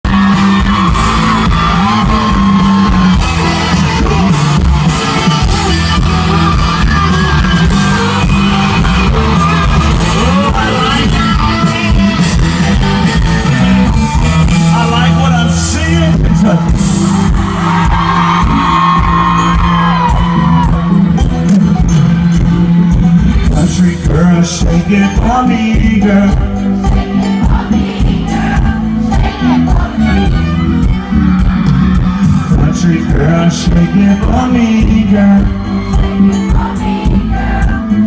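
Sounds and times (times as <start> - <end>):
person singing: 0.1 - 16.6, 22.3 - 31.5, 32.2 - 38.0
live country-rock band: 0.1 - 38.0.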